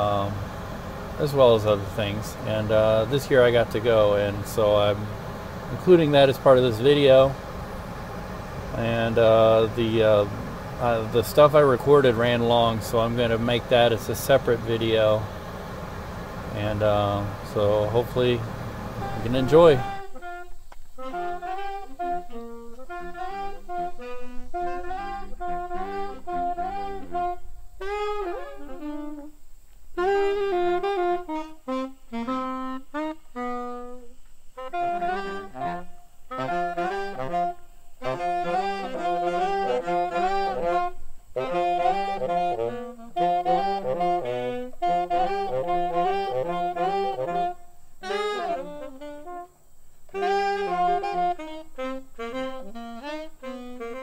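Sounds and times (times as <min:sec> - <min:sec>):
saxophone playing jazz melody: 0:00.0 - 0:54.0.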